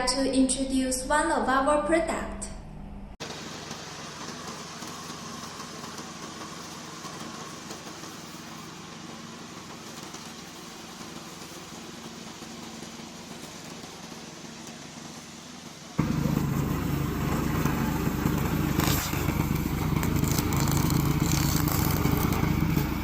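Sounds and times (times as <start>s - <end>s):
mower engine running: 3.2s - 23.0s.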